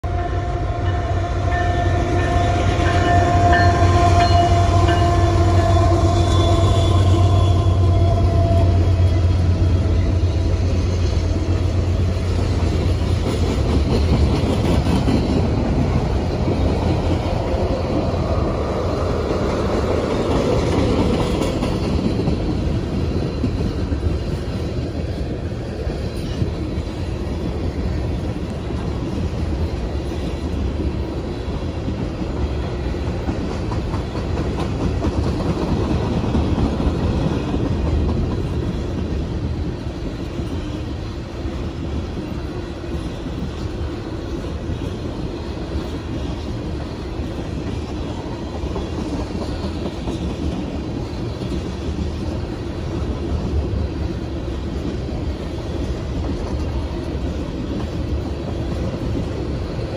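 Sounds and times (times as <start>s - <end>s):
diesel locomotive engine hum: 0.0s - 59.9s
train wheels rumbling on rails: 0.0s - 59.9s.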